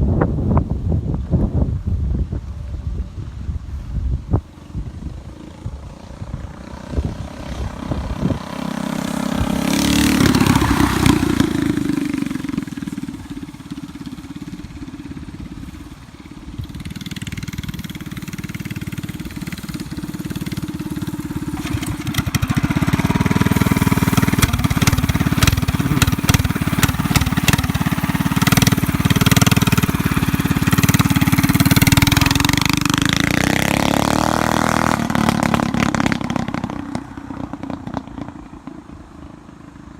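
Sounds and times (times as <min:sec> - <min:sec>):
mini bike engine running: 0:04.5 - 0:39.9.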